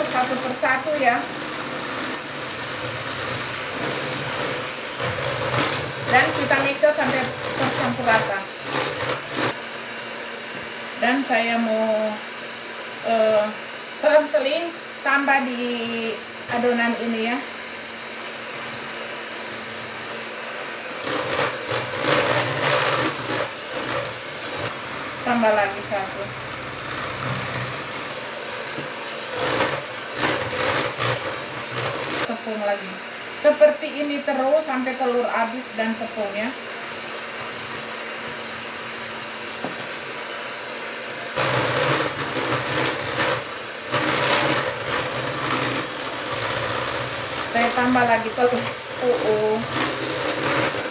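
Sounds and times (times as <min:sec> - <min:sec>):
electric hand mixer beating batter: 0:00.0 - 0:50.9.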